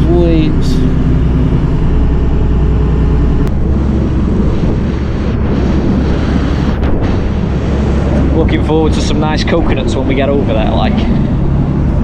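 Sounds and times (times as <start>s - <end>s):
sea rushing along hull: 0.0s - 12.0s
ship engine drone: 0.0s - 12.0s.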